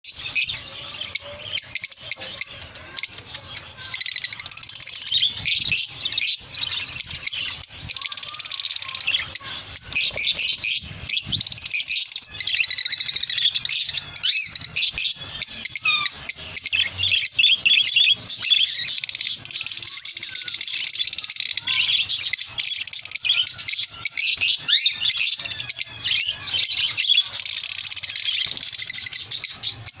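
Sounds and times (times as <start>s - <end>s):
birds chattering and chirping: 0.0s - 30.0s.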